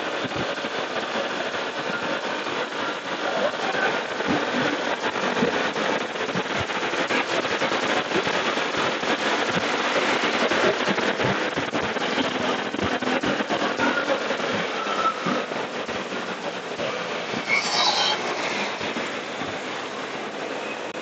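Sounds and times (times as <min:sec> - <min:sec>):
road noise: 0:00.0 - 0:21.0
wind rushing: 0:00.0 - 0:21.0.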